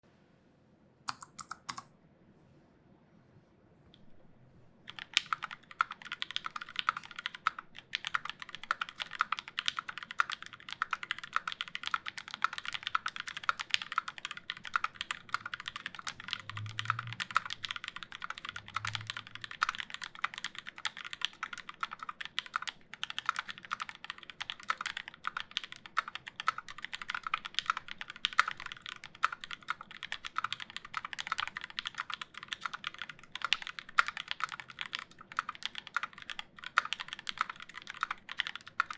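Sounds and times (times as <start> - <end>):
mechanical keyboard typing: 1.1 - 1.9, 4.9 - 38.9.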